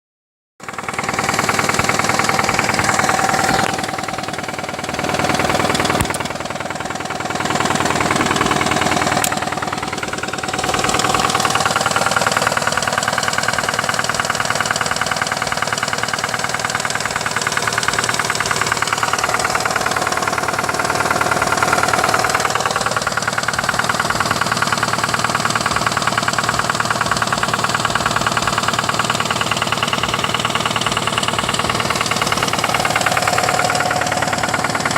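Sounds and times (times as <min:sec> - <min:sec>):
car engine knocking: 0:00.6 - 0:34.9.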